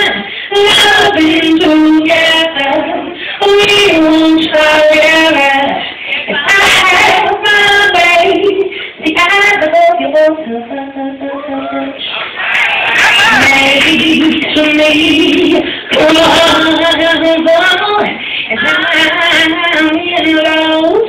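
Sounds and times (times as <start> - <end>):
woman singing: 0.0 - 12.1, 13.0 - 21.0.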